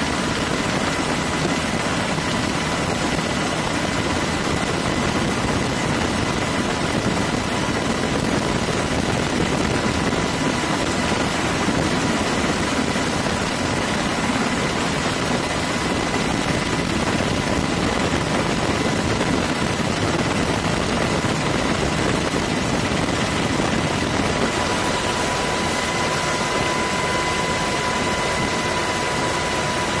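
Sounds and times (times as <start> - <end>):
aircraft turbine drone: 0.0 - 30.0.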